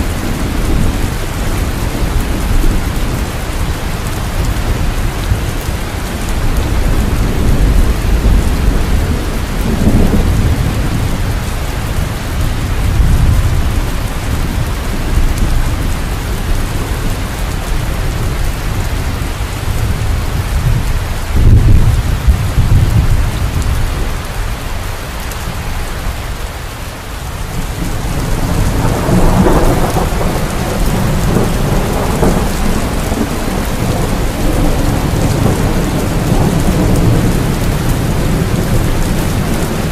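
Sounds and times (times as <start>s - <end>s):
rolling thunder: 0.0s - 24.2s, 27.5s - 39.9s
steady rain: 0.0s - 39.9s.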